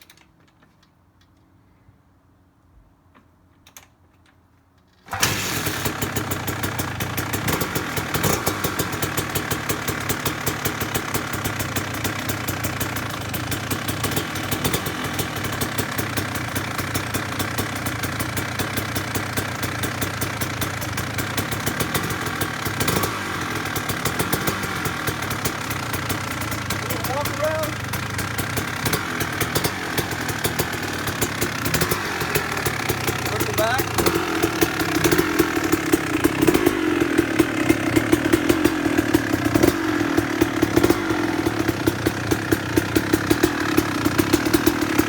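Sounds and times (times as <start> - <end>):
motorcycle engine starting and running: 4.8 - 45.0.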